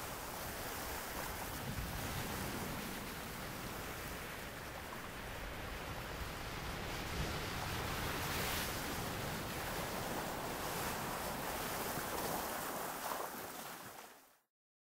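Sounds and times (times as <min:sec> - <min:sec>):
ocean waves washing onto shore: 0:00.0 - 0:14.3.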